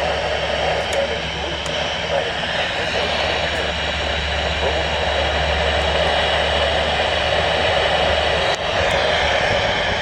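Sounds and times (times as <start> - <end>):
radio static hiss: 0.0 - 9.4
low hum: 0.0 - 10.0.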